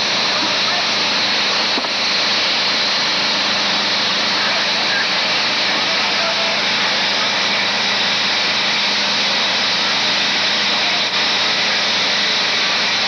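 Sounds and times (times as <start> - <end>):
fire engine motor hum: 0.0 - 13.0.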